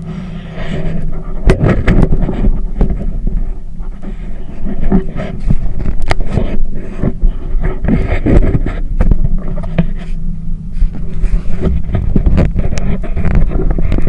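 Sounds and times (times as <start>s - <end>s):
boat motor rumbling: 0.0s - 14.0s
knocks and wind buffeting: 0.6s - 14.0s.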